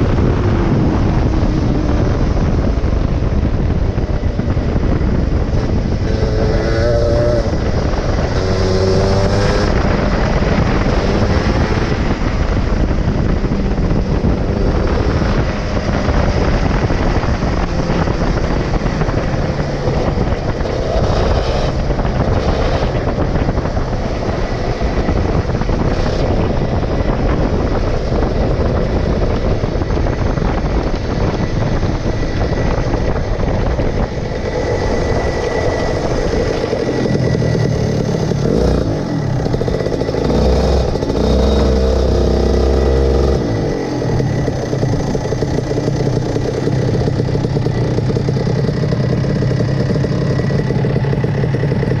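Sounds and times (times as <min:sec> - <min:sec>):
go-kart engine running: 0:00.0 - 0:52.0.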